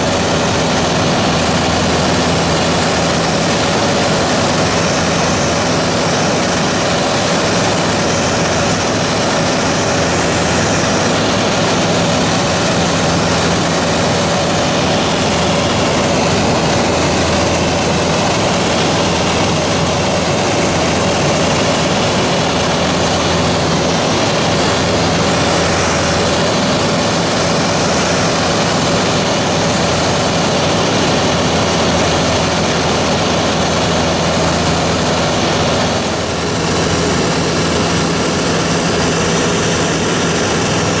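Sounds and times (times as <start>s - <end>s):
aircraft cabin engine drone: 0.0s - 41.0s.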